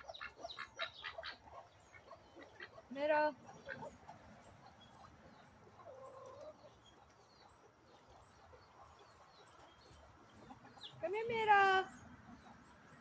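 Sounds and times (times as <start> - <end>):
faint duck and chicken calls: 0.0 - 11.3.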